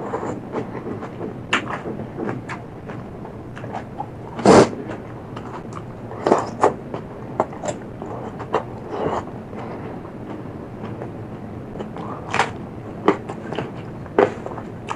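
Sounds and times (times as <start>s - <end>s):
chewing and crunching food: 0.0s - 14.9s.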